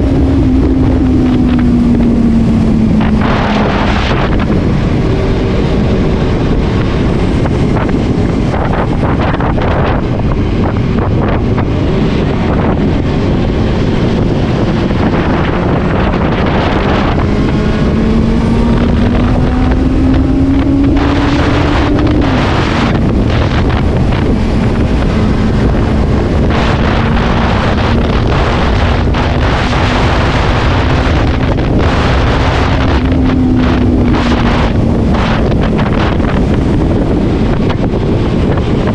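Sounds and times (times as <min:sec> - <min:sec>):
motorcycle engine revving: 0:00.0 - 0:38.9
wind buffeting on microphone: 0:00.0 - 0:38.9.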